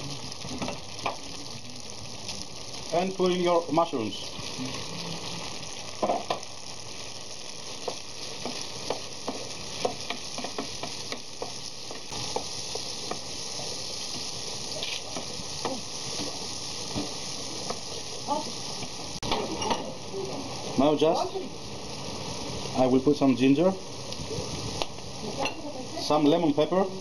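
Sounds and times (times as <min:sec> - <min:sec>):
mushrooms sizzling in oil: 0:00.0 - 0:27.0.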